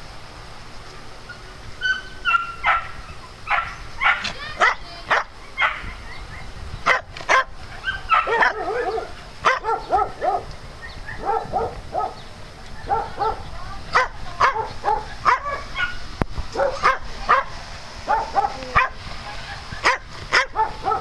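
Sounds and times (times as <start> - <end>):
dogs yipping: 1.3 - 17.5, 18.1 - 21.0
dogs barking: 1.8 - 12.2, 12.8 - 17.5, 18.1 - 21.0.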